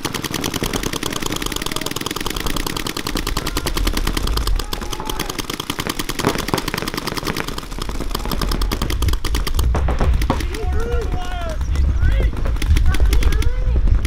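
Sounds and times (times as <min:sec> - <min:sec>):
paintball markers firing: 0:00.0 - 0:14.0.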